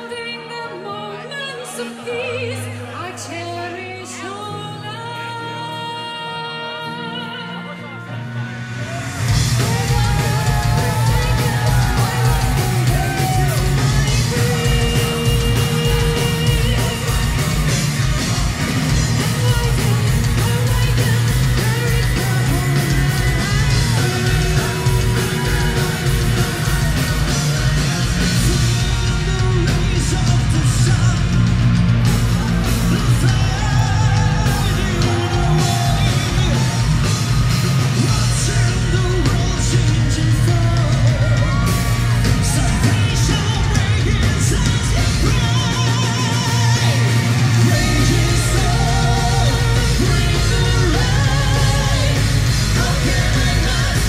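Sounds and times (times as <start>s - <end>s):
sung vocals: 0.0s - 54.0s
metal band playing live: 7.5s - 54.0s.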